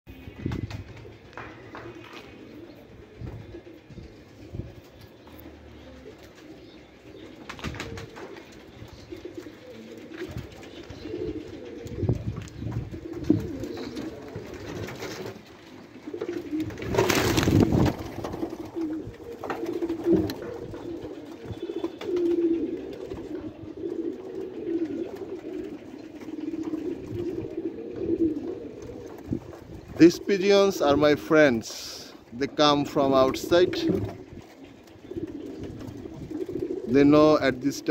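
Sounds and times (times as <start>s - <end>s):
pigeons cooing: 0.1s - 37.9s.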